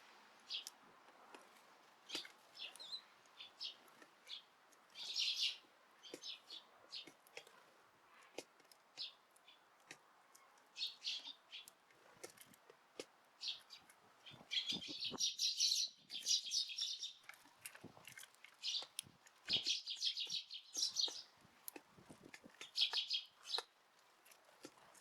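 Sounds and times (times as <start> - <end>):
sparrows chirping: 0.4 - 0.8, 1.9 - 12.6, 13.4 - 17.6, 18.4 - 25.0.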